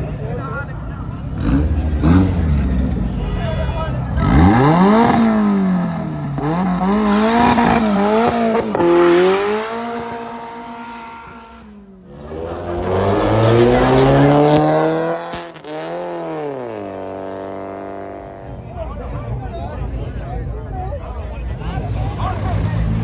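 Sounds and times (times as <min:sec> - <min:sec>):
car engines revving and accelerating: 0:00.0 - 0:23.0.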